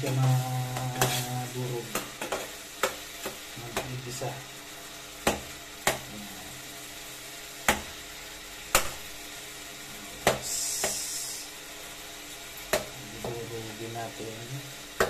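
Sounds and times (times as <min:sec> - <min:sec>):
meat sizzling: 0:00.0 - 0:15.0.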